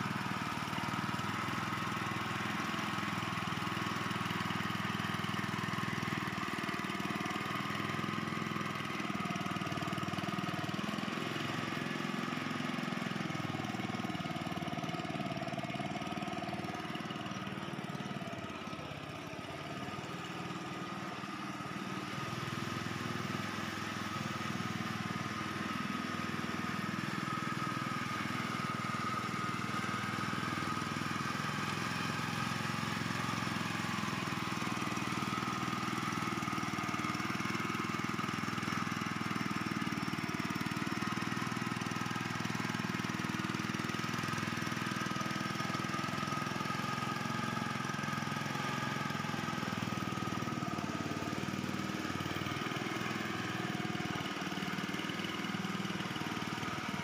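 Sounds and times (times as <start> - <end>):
small tiller engine running: 0.0 - 57.0.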